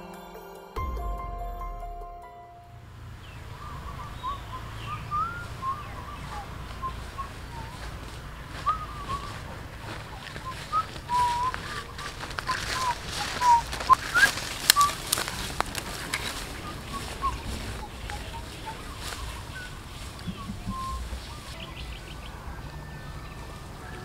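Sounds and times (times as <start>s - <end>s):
bird chirping: 2.7s - 24.0s
rustling of grass and stems: 3.2s - 24.0s.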